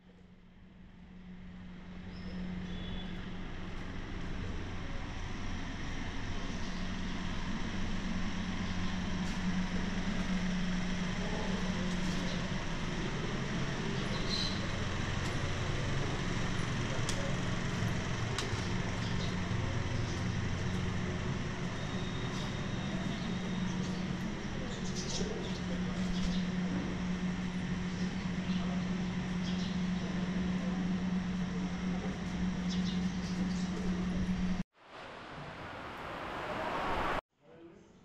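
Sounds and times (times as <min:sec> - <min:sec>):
low motor hum: 0:00.0 - 0:37.2.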